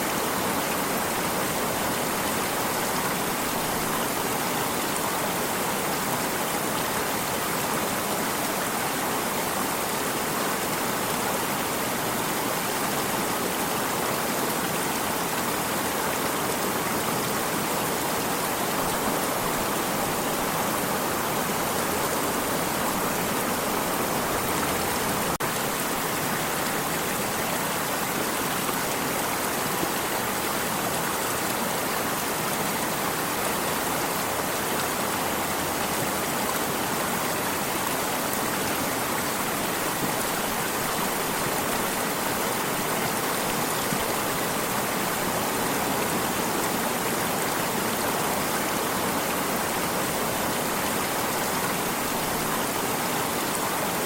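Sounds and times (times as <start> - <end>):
water stream flowing: 0.0 - 54.0.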